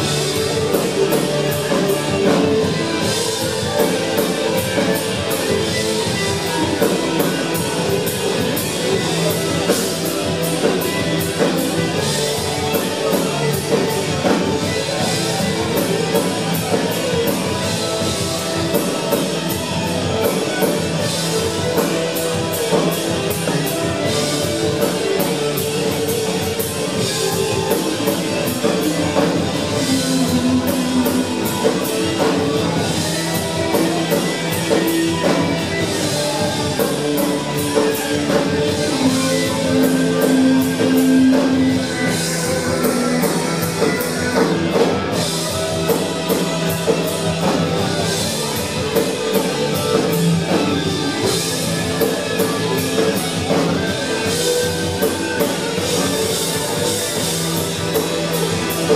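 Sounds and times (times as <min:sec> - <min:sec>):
rock band playing live: 0:00.0 - 0:58.9
sustained guitar: 0:00.0 - 0:58.9.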